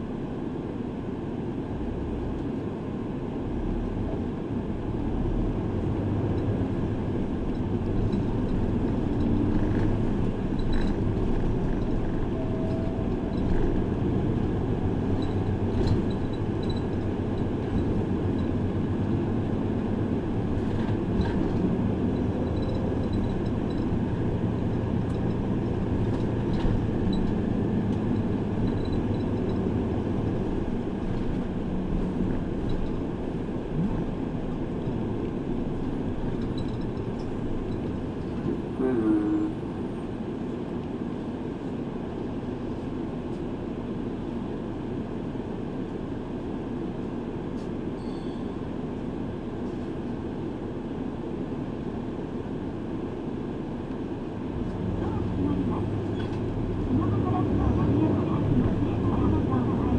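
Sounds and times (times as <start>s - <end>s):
bus engine and road noise: 0.0s - 59.9s.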